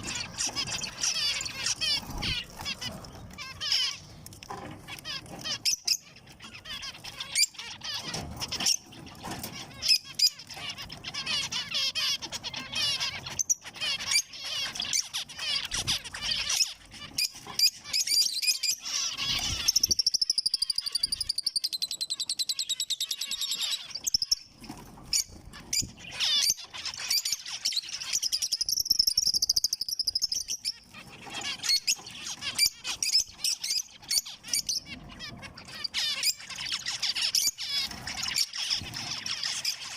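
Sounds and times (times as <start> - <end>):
finches calling and chirping: 0.0 - 39.9
rapid buzzy bird song: 0.0 - 39.9.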